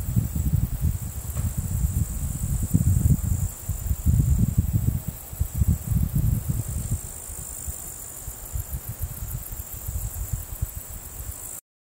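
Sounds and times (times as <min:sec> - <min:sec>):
wind buffeting the microphone: 0:00.0 - 0:11.5
insects trilling: 0:00.0 - 0:11.6.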